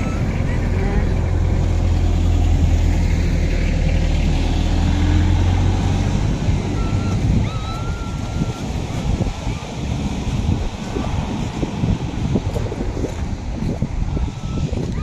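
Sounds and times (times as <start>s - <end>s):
engine humming: 0.0s - 15.0s
wind on microphone: 0.0s - 15.0s.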